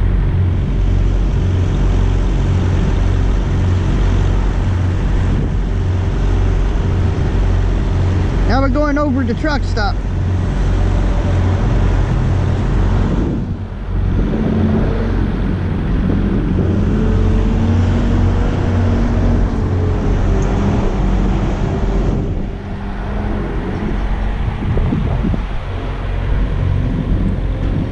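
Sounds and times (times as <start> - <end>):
low wavering engine hum: 0.0 - 27.9
road traffic: 0.0 - 27.9
truck engines rumbling: 0.0 - 27.9.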